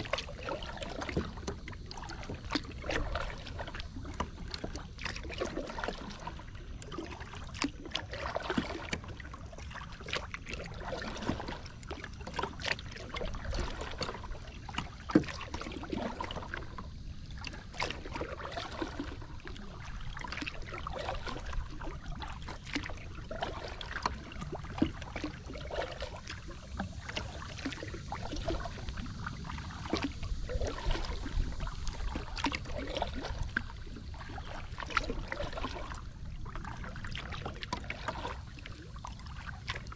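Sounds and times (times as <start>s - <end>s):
water splashing and dripping: 0.0s - 39.9s.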